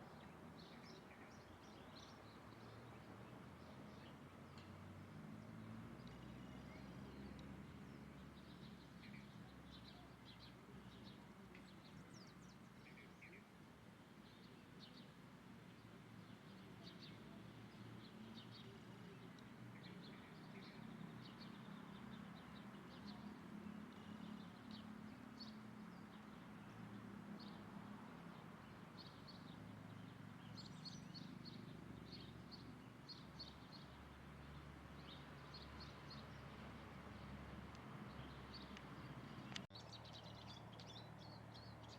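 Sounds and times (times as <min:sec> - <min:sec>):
low background noise: 0:00.0 - 0:41.9
small birds chirping: 0:00.0 - 0:41.9.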